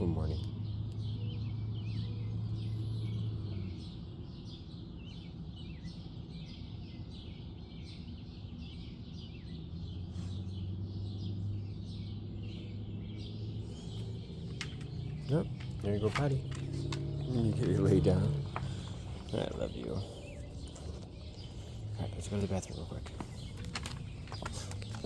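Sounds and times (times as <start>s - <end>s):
small birds chirping and singing: 0.0s - 25.0s.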